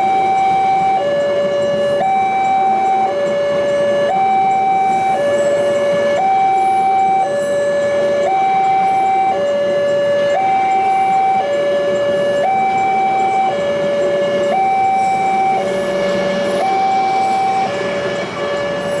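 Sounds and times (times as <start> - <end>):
electronic two-tone alarm: 0.0 - 19.0.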